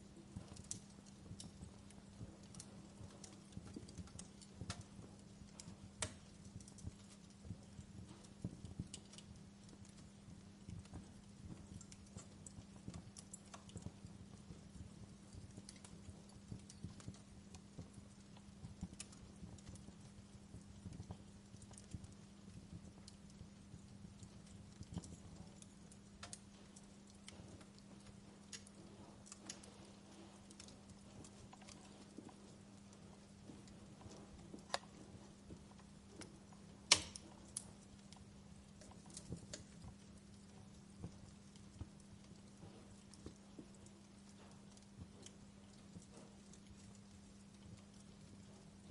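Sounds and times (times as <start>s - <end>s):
faint steady hum: 0.0s - 48.9s
wood fire crackling: 0.0s - 48.9s.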